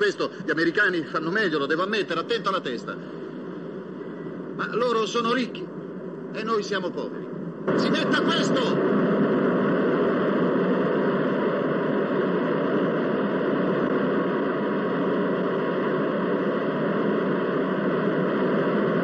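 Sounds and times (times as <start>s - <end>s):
diesel generator engines running: 0.0s - 19.0s.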